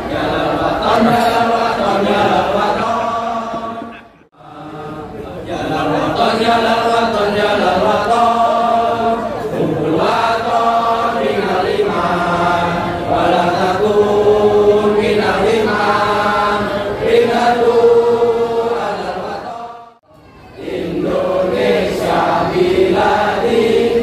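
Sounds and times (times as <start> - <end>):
men singing in unison: 0.0 - 19.9.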